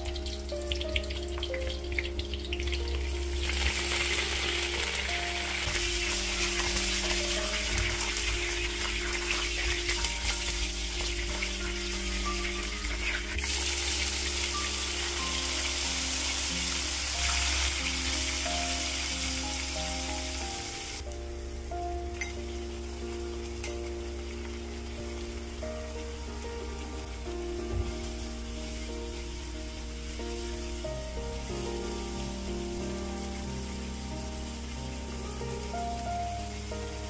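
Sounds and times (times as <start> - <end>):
spices sizzling in hot oil: 0.0 - 37.0.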